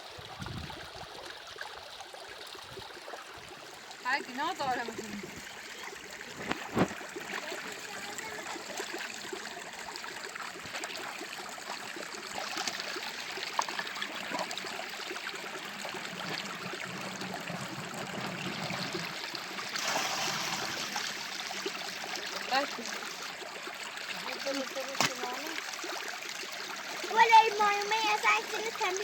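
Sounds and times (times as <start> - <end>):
running water stream: 0.0 - 29.0.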